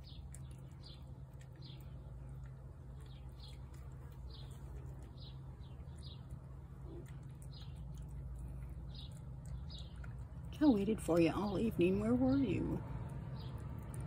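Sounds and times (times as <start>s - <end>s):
small bird chirping: 0.0s - 14.0s
steady low hum: 0.0s - 14.0s.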